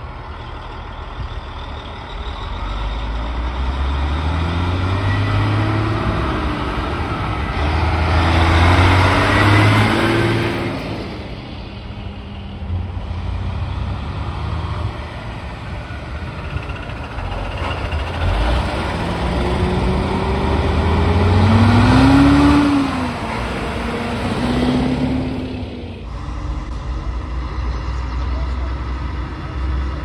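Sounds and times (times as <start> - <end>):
diesel trucks accelerating past: 0.0 - 30.0.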